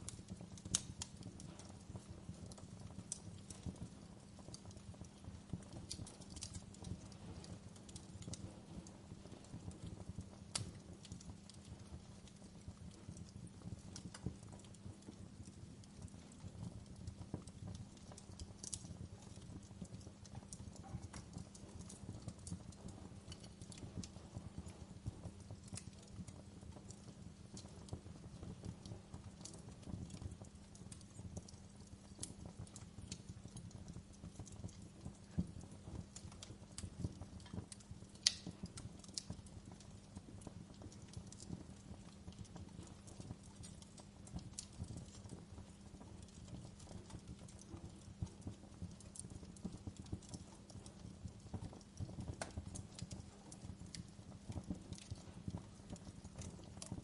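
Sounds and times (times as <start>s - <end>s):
fire crackling and popping: 0.0s - 57.0s
wood fire flames rumbling: 0.0s - 57.0s.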